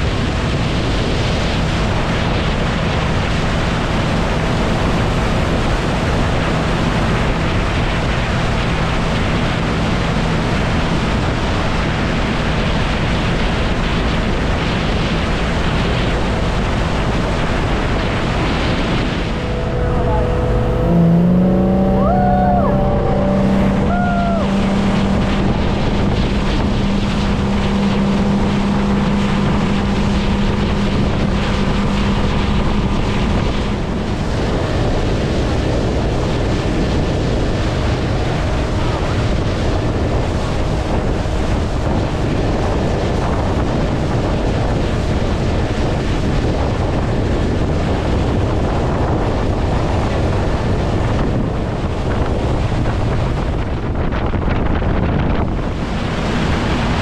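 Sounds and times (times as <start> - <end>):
motor-like hum: 0.0 - 49.2, 52.2 - 57.0
wind rumble on microphone: 0.0 - 57.0.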